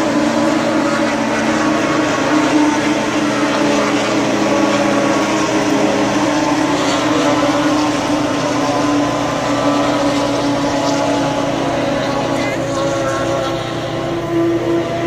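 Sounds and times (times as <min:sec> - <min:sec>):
snowmobile engines racing: 0:00.0 - 0:15.0.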